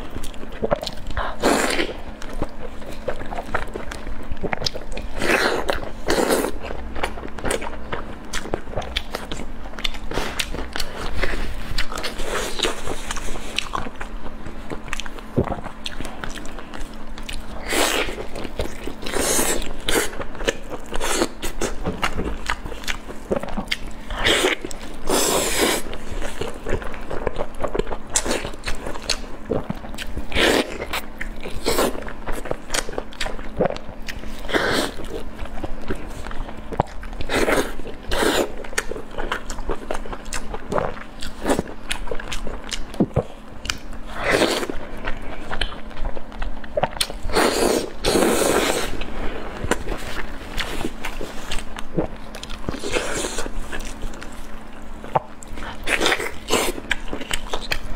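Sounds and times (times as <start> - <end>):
wet biting and chewing: 0.0 - 57.9.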